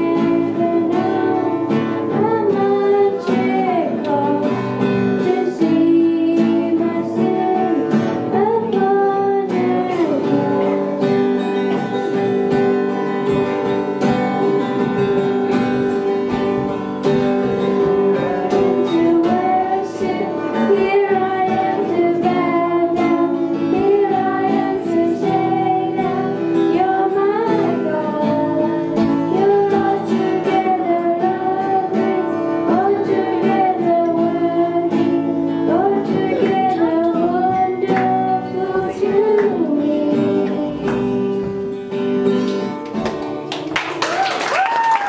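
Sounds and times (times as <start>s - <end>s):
girl singing: 0.0s - 12.2s, 17.7s - 41.7s
strummed acoustic guitar: 0.0s - 43.6s.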